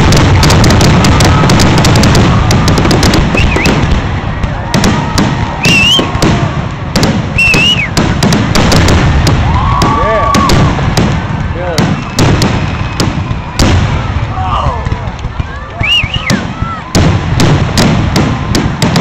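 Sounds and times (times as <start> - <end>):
fireworks bursting and crackling: 0.0 - 19.0
loud fireworks booms: 0.0 - 19.0.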